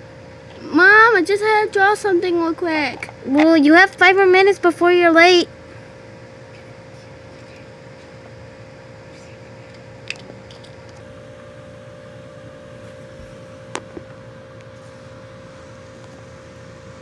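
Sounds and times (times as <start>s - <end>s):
room hum with droning tone: 0.0s - 17.0s.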